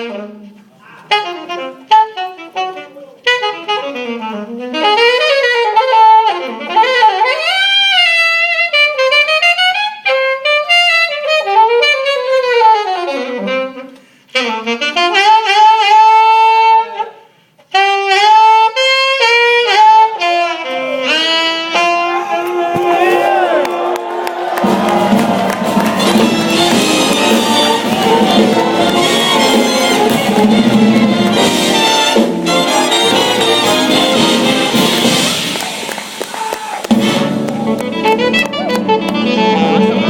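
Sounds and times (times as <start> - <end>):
jazz saxophone solo: 0.0 - 22.6, 23.2 - 40.0.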